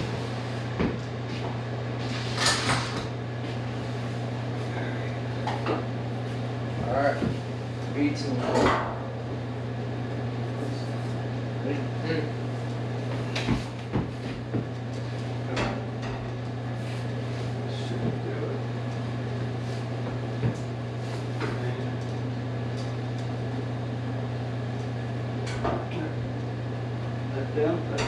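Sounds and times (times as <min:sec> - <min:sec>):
air conditioner hum: 0:00.0 - 0:28.0.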